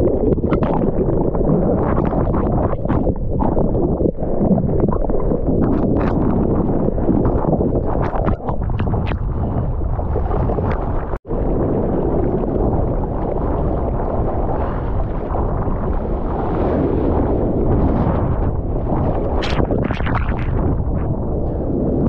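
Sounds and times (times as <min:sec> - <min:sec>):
rushing seawater: 0:00.0 - 0:22.0
wind buffeting microphone: 0:00.0 - 0:22.0.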